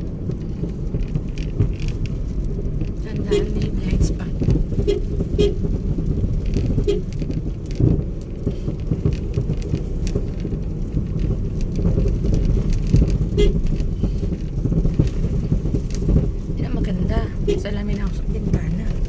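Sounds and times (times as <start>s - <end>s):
small knocks and rattles: 0.0s - 19.0s
vehicle road rumble: 0.0s - 19.0s.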